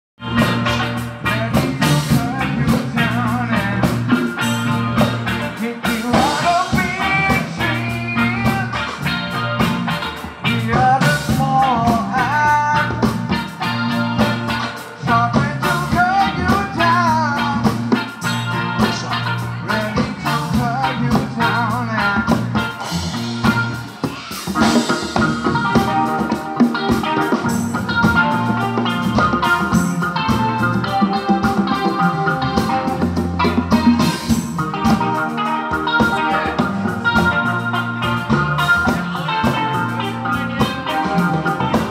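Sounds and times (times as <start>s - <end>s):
bass guitar: 0.2s - 41.9s
drum kit: 0.2s - 41.9s
electric guitar: 0.2s - 41.9s
person singing: 0.4s - 41.9s.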